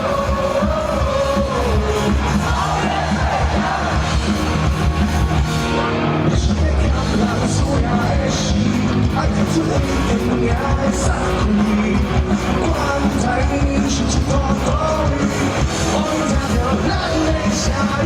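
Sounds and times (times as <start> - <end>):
person singing: 0.0 - 4.0, 6.2 - 18.0
live punk rock band: 0.0 - 18.0.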